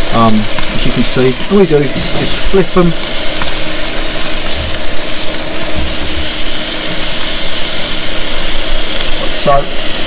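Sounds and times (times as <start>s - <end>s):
steaks sizzling on a grill: 0.0s - 10.0s.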